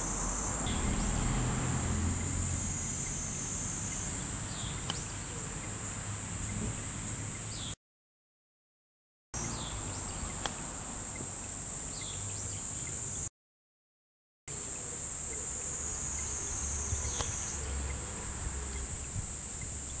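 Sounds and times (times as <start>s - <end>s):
insect chorus: 0.0s - 7.8s, 9.4s - 13.3s, 14.5s - 20.0s.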